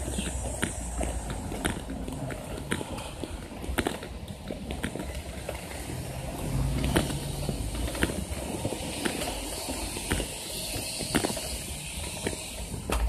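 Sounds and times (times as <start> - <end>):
scooter wheels rolling on concrete: 0.0 - 13.0
wheels clicking over slab joints: 0.0 - 13.0.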